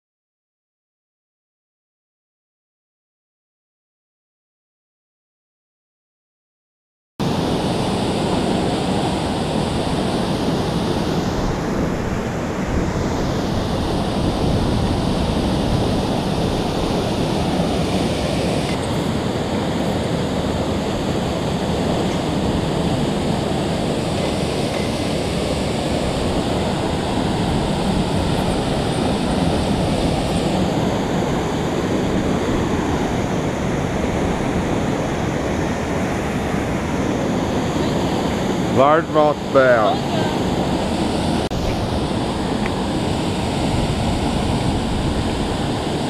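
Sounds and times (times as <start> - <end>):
water rushing through spillway: 7.2 - 46.0.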